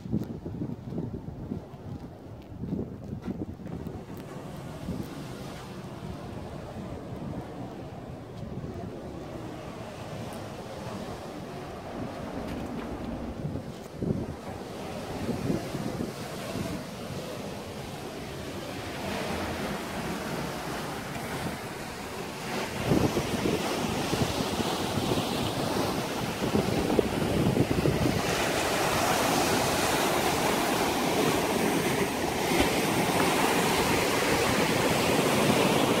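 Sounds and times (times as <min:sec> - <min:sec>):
wind buffeting microphone: 0:00.0 - 0:36.0
sea waves breaking on rocks: 0:03.6 - 0:36.0.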